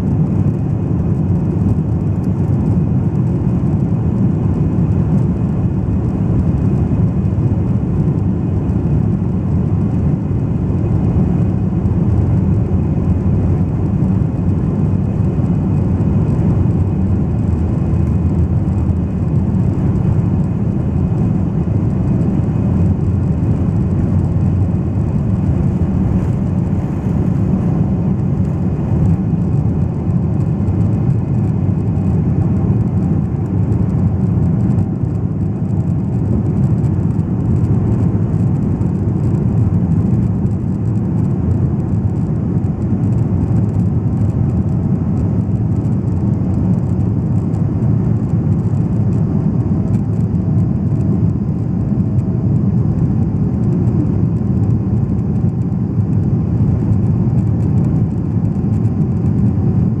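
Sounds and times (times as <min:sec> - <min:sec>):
faint steady whine: 0:00.0 - 1:00.0
jet engines roaring in cabin: 0:00.0 - 1:00.0.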